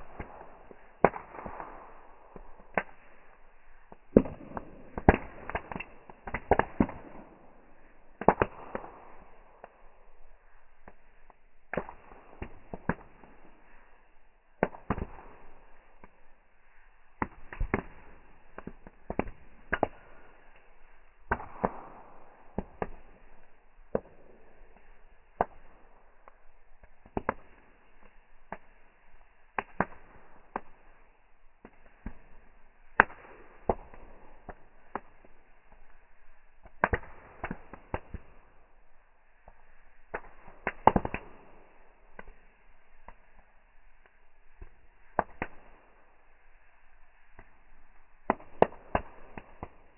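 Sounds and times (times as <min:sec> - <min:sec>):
sharp cracks and pops: 0:00.0 - 0:49.9.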